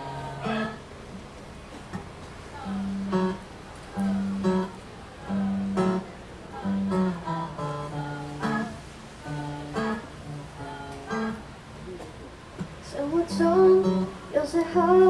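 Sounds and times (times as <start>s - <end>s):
acoustic guitar strumming chords: 0.0s - 12.0s, 12.6s - 15.0s.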